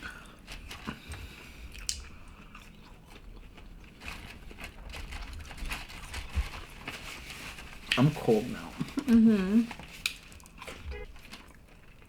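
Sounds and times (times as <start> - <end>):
food being bitten and chewed: 0.6 - 8.1, 9.8 - 12.0
small crunches and clicks: 1.7 - 12.0.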